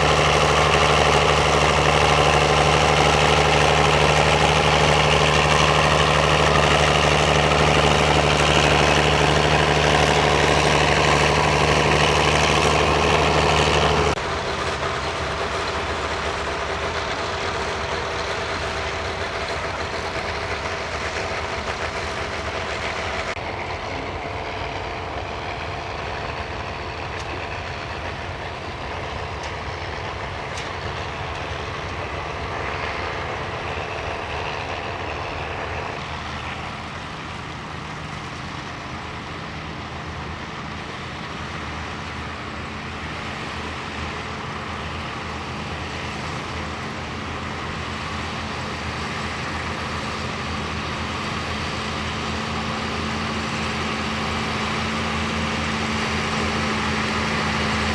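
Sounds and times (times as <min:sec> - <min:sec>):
tractor diesel engines under load: 0:00.0 - 0:57.9.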